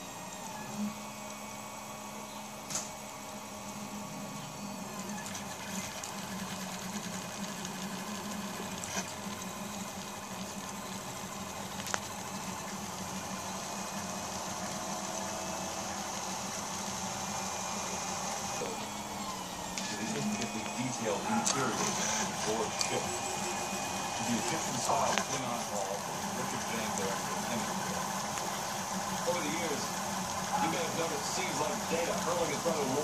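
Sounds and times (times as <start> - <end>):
printer stepper motors whirring: 0.0 - 33.0.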